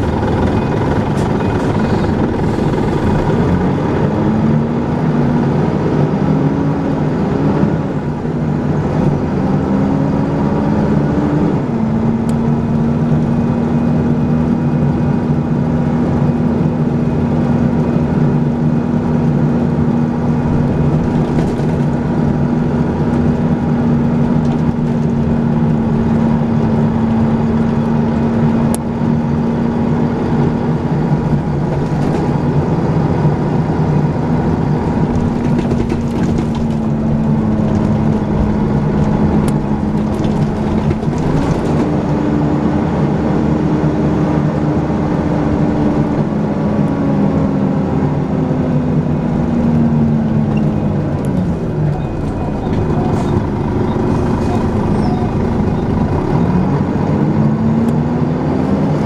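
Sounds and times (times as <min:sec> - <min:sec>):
bus engine and gearbox whine: 0:00.0 - 0:59.0.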